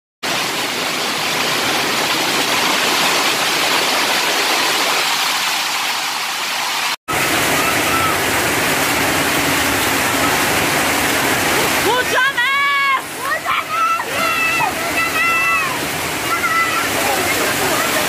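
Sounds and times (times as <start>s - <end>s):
hail and heavy rain: 0.3s - 18.0s.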